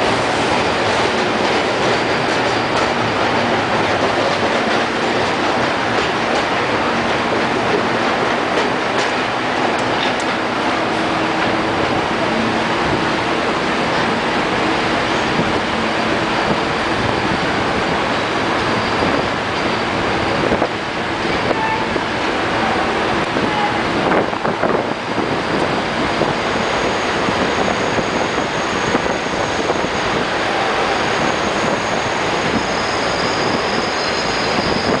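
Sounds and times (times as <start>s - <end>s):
train clatter: 0.0s - 35.0s
train wheels rumbling on rails: 0.0s - 35.0s.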